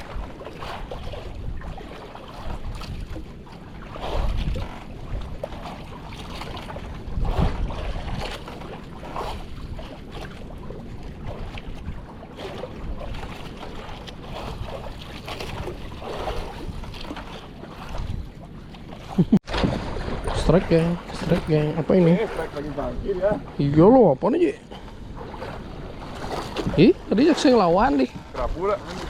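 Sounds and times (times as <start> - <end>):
water washing against boat: 0.0 - 29.0
wind buffeting microphone: 0.0 - 29.0.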